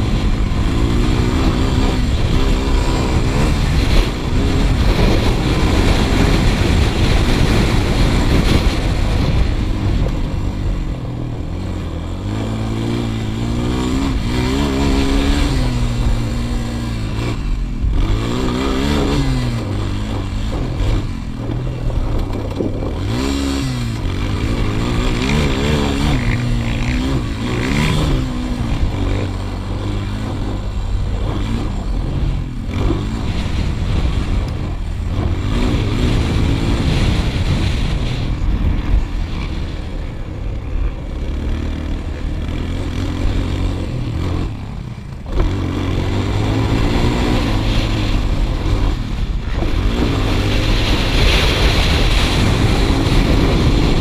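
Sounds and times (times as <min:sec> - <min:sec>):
quad engine under load: 0:00.0 - 0:54.0
steady rushing noise: 0:00.0 - 0:54.0.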